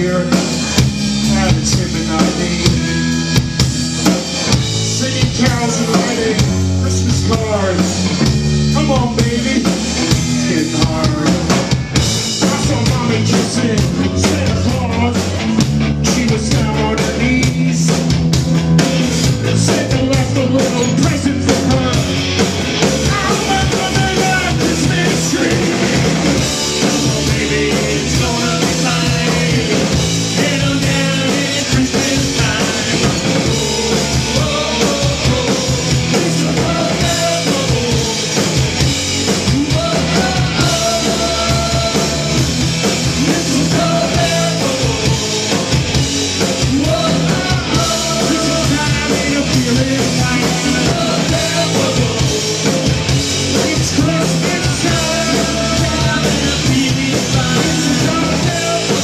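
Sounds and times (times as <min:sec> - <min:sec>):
drum kit: 0:00.0 - 0:59.0
electric bass: 0:00.0 - 0:59.0
electric guitars: 0:00.0 - 0:59.0
men singing: 0:04.9 - 0:07.9, 0:12.4 - 0:18.0, 0:19.3 - 0:59.0.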